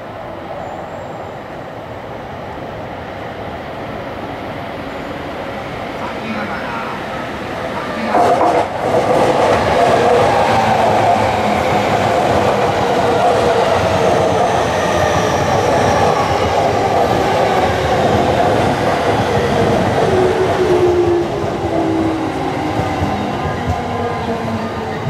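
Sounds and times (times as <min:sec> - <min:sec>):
train wheels rumbling on rail: 0:02.1 - 0:25.0.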